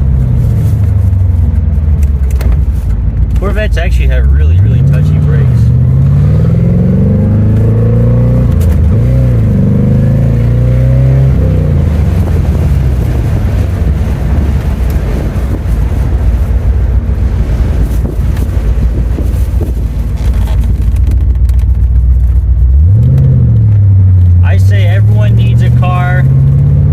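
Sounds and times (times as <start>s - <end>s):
car engine revving: 0.0s - 26.9s
road noise: 0.0s - 26.9s.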